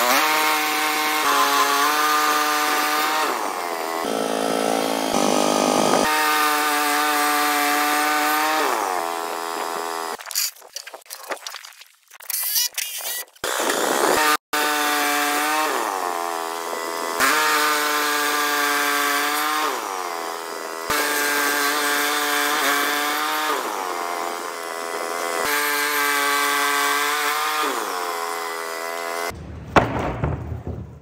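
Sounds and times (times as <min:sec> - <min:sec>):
band blade sawing log: 0:00.0 - 0:10.2, 0:13.1 - 0:29.4
bandsaw mill engine: 0:00.0 - 0:10.2, 0:13.4 - 0:29.4.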